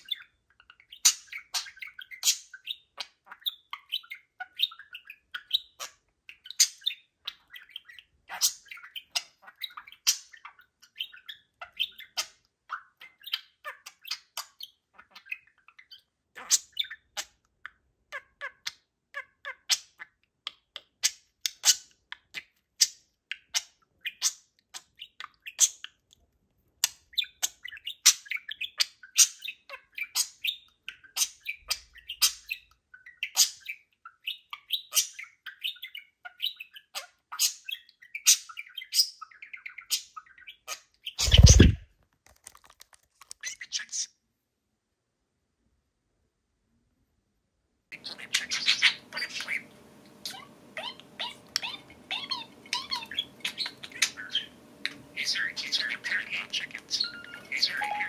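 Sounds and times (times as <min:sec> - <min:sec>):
budgerigars chirping: 0:00.0 - 0:17.4, 0:18.2 - 0:25.9, 0:26.9 - 0:41.8, 0:48.0 - 0:58.0.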